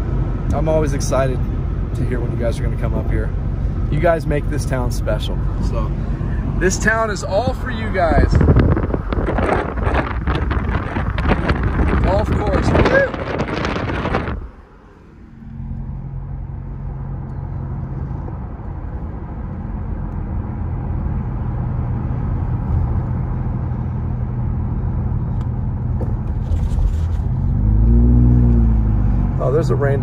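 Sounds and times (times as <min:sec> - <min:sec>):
car engine hum: 0:00.0 - 0:30.0
tyre and road noise: 0:00.0 - 0:30.0.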